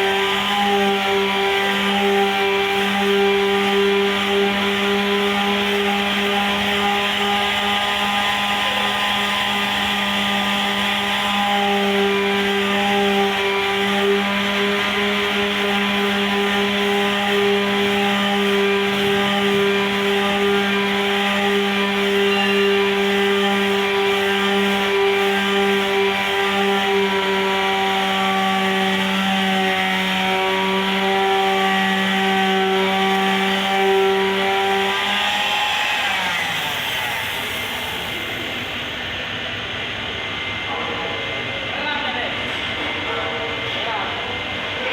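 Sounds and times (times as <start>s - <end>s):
electric sander grinding: 0.0s - 39.3s.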